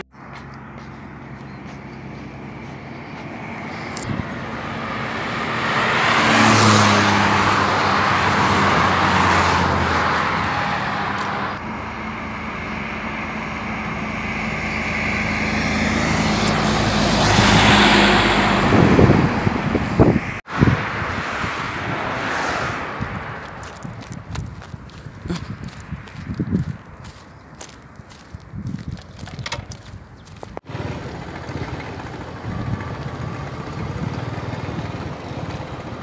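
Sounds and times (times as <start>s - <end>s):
low engine hum: 0.0s - 36.0s
traffic passing at speed: 0.0s - 36.0s.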